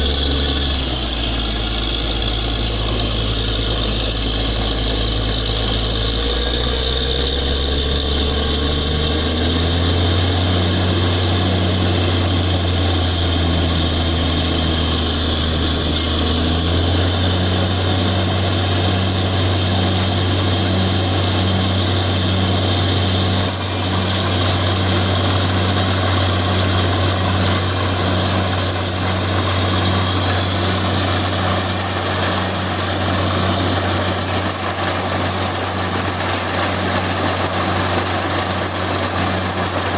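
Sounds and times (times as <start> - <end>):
drilling rig engine drone: 0.0 - 39.9
high steady whine: 0.0 - 39.9.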